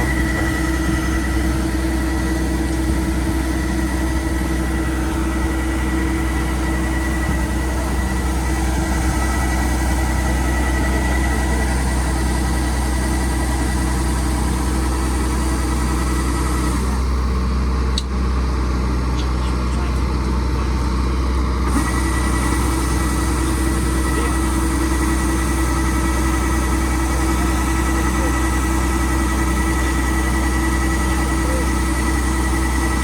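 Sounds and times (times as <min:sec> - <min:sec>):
engine running with hum: 0:00.0 - 0:33.0
steady high whine: 0:00.0 - 0:33.0.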